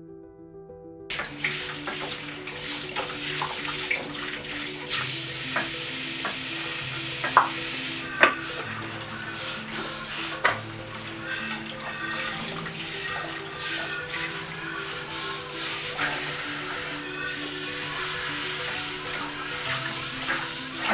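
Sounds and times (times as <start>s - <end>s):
soft music of sustained notes: 0.0s - 20.9s
pots and utensils clinking: 1.1s - 20.9s
tap water running into sink: 1.1s - 20.9s.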